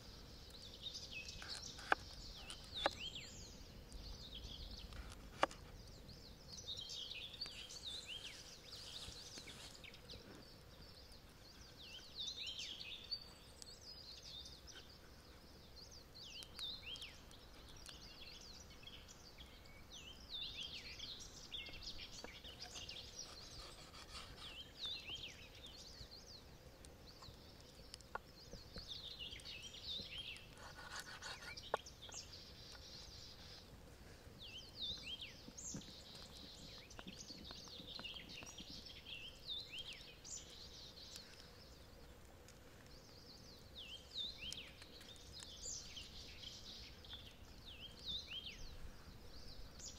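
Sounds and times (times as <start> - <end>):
faint outdoor background: 0.0 - 49.9
songbirds chirping: 0.0 - 49.9.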